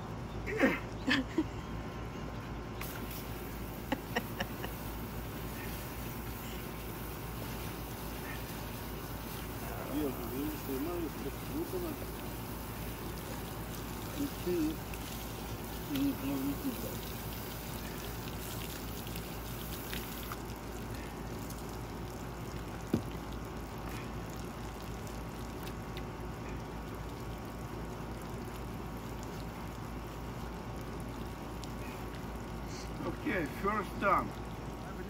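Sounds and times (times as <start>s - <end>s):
water trickling: 2.8s - 35.0s.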